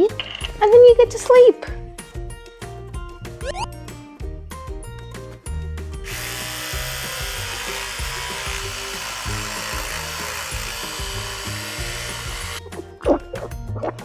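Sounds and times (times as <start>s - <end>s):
background music with bass: 0.0s - 14.0s.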